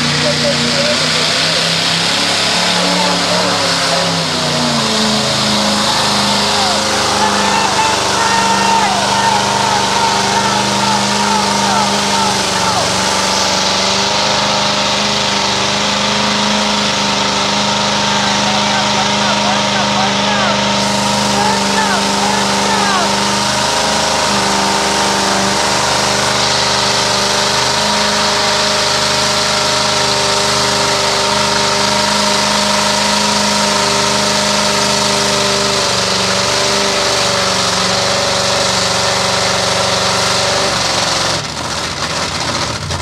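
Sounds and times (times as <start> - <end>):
loud droning truck engine: 0.0 - 43.0.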